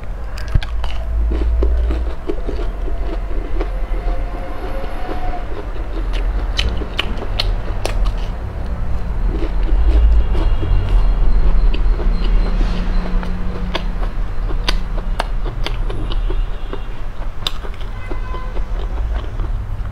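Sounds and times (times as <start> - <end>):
deep low rumble: 0.0 - 16.8
chewing crunchy fried food: 0.0 - 19.9.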